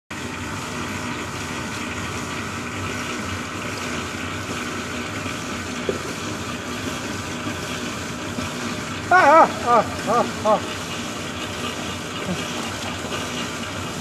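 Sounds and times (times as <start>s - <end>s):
mixer machine running: 0.1s - 14.0s.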